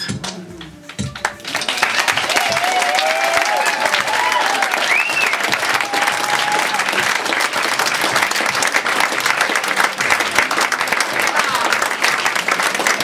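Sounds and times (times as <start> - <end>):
audience clapping and cheering: 0.2 - 13.0.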